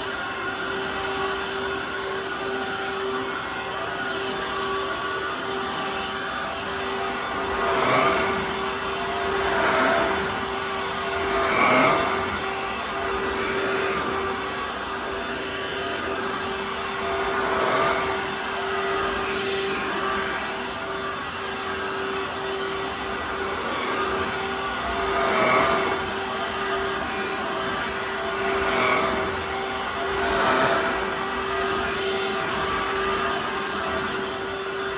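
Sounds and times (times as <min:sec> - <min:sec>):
cordless vacuum running: 0:05.5 - 0:34.9.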